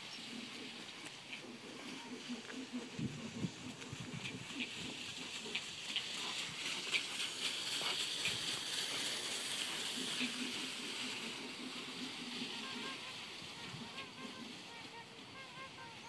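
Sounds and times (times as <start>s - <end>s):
cart wheels and hooves on gravel: 0.0s - 16.0s.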